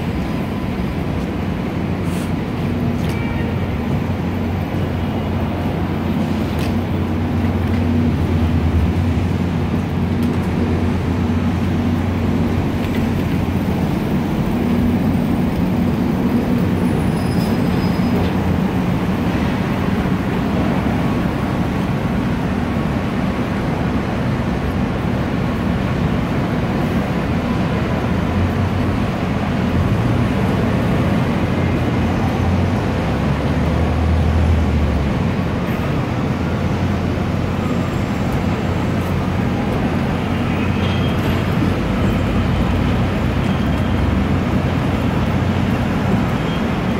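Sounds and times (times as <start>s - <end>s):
city street traffic: 0.0s - 46.9s
truck engines humming: 0.0s - 46.9s.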